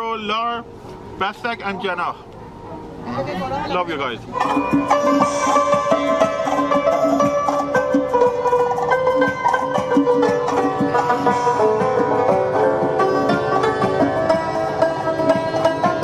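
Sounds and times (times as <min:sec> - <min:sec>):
plucked string instrument music: 0:01.7 - 0:16.0.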